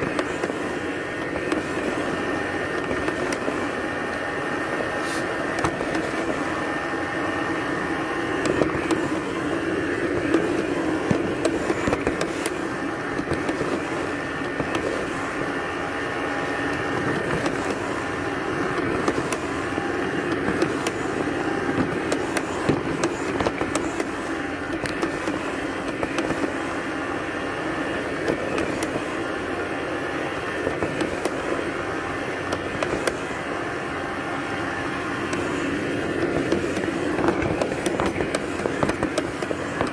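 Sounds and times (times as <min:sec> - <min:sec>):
robot vacuum whirring hum: 0:00.0 - 0:39.9.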